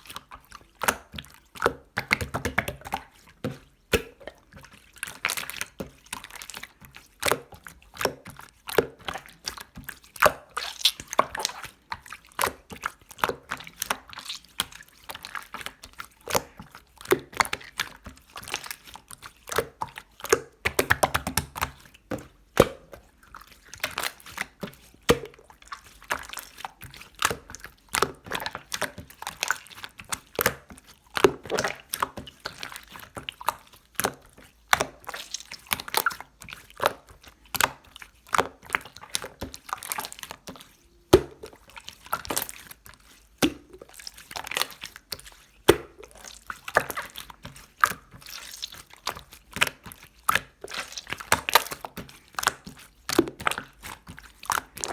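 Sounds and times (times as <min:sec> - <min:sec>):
slime squelching by hand: 0:00.0 - 0:54.9.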